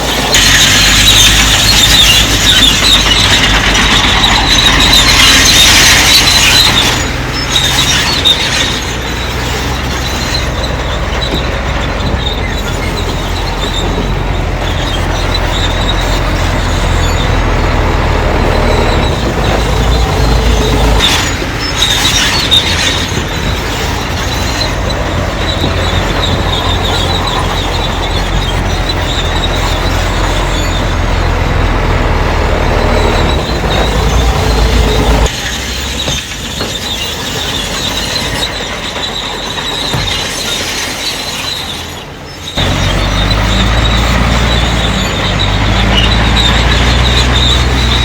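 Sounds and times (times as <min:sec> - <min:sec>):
bulldozer diesel engine: 0:00.0 - 0:48.0
steel crawler tracks squealing: 0:00.0 - 0:48.0.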